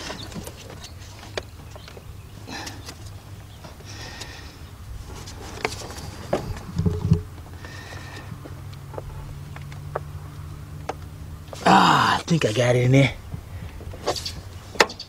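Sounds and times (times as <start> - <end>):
low steady hum: 0.0 - 14.7.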